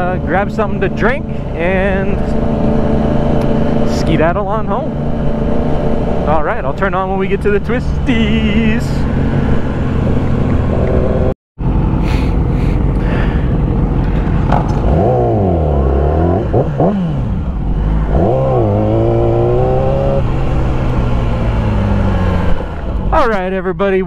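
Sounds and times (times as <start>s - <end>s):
motorcycle engine revving: 0.0s - 23.3s.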